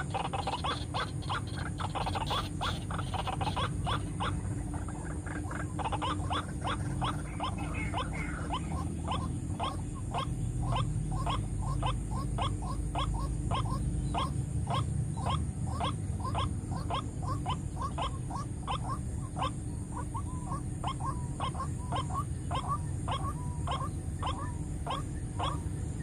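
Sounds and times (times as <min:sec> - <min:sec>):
waterhen calling: 0:00.0 - 0:26.0.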